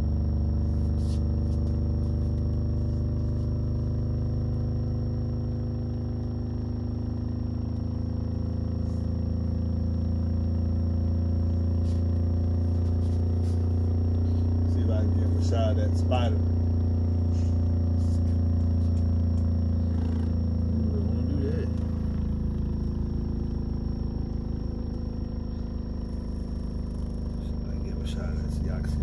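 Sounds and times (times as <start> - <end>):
deep subwoofer hum sweep: 0.0 - 29.0.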